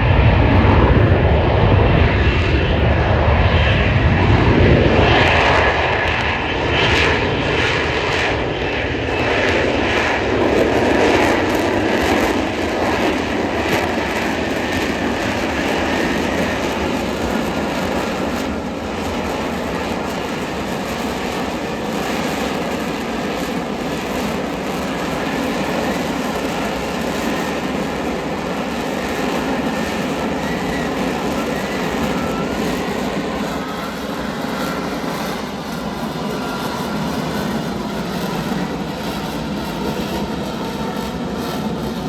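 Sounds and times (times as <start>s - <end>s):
aircraft engine rushing: 0.0s - 42.0s.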